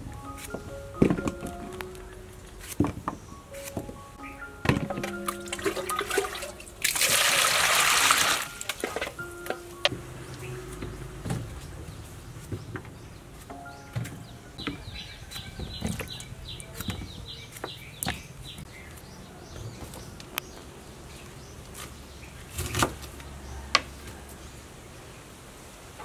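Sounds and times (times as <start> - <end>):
bird chirping: 0.0 - 5.4, 9.1 - 24.5.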